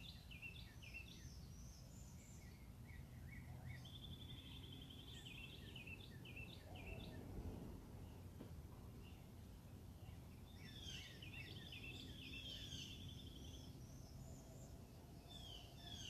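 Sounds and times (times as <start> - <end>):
faint birdsong chirps and trill: 0.0 - 16.0
low background rumble: 1.2 - 16.0.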